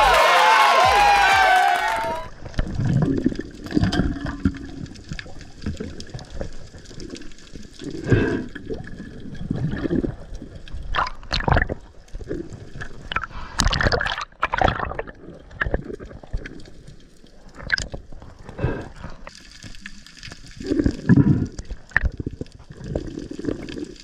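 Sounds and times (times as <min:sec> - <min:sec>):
water gurgling underwater: 0:02.3 - 0:24.0.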